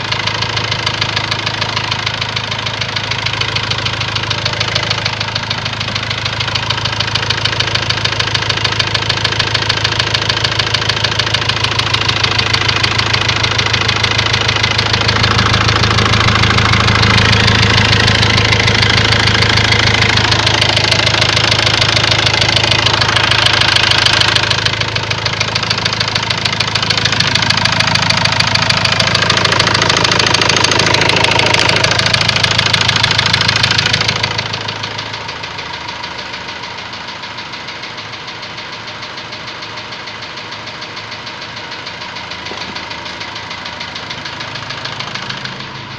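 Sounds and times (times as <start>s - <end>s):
diesel engine knocking: 0.0s - 45.9s.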